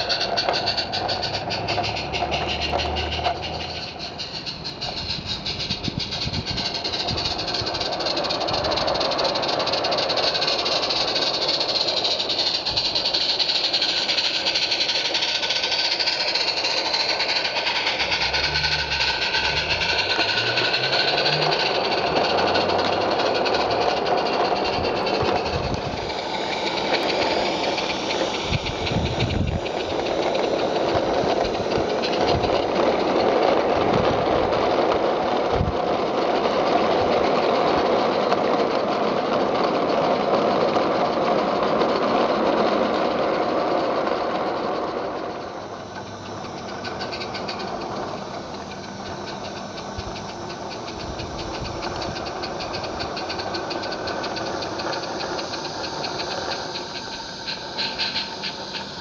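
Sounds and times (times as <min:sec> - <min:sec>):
steam exhaust: 0:00.0 - 0:59.0
train wheels rattling on rails: 0:00.0 - 0:59.0.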